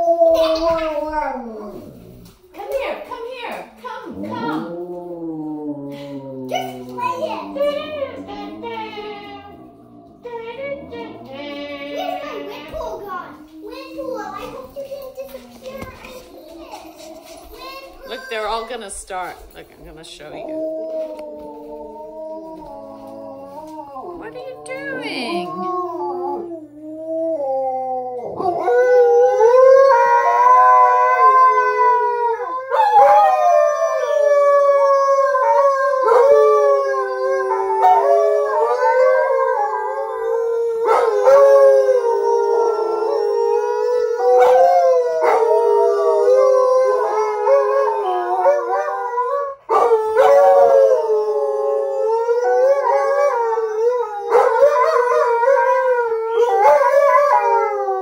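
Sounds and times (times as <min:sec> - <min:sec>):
dogs howling in chorus: 0:00.0 - 0:02.3, 0:04.0 - 0:14.7, 0:20.2 - 0:58.0.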